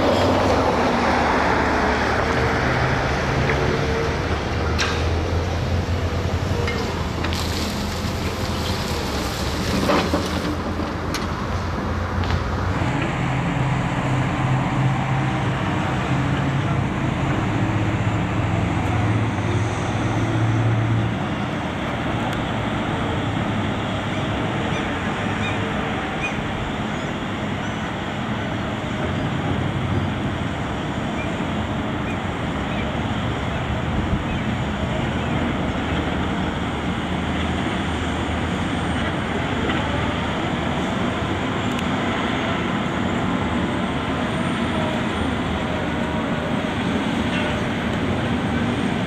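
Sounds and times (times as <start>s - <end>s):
heavy machinery diesel engines: 0.0s - 49.0s.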